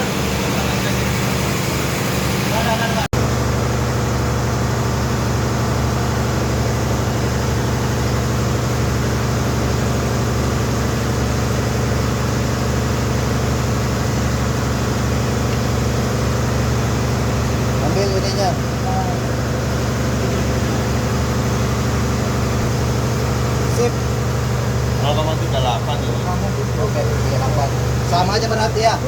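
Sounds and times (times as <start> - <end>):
machine engine idling: 0.0 - 29.0.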